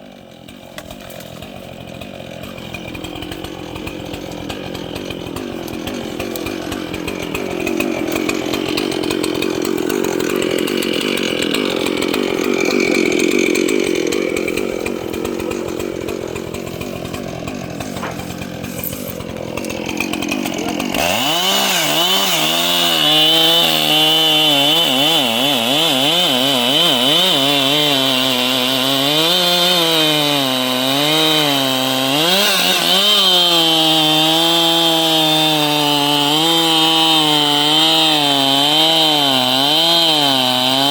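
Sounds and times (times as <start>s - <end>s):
chainsaw cutting: 0.0s - 40.9s.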